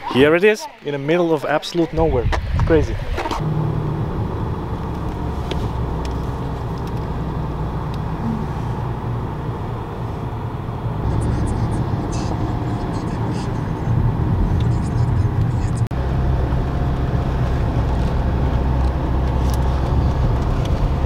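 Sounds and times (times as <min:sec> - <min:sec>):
car engine and road noise drone: 0:02.3 - 0:21.0.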